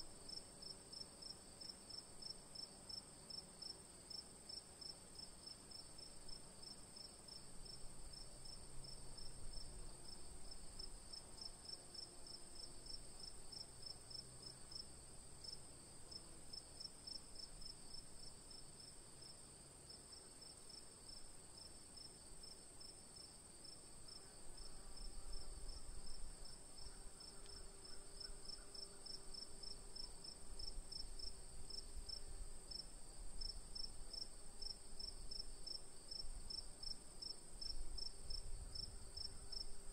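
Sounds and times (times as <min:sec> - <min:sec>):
crickets chirping: 0:04.0 - 0:39.9.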